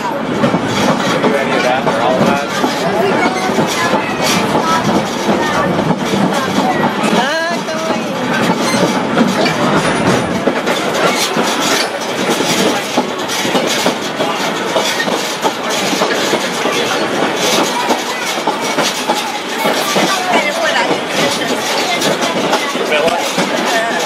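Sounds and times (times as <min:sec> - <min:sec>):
train cars rumbling and rattling: 0:00.0 - 0:24.0
wheels knocking over rails: 0:00.0 - 0:24.0.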